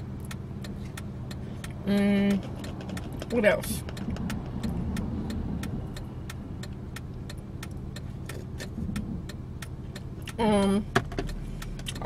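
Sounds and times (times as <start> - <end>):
car engine and road rumble: 0.0 - 12.0
light ticking: 0.0 - 12.0.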